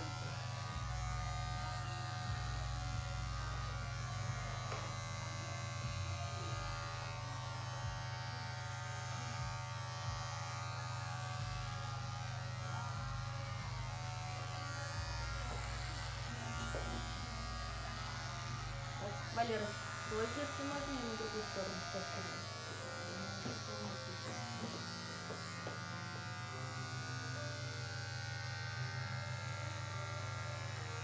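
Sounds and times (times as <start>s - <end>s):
electric hair clippers buzzing: 0.0s - 31.0s.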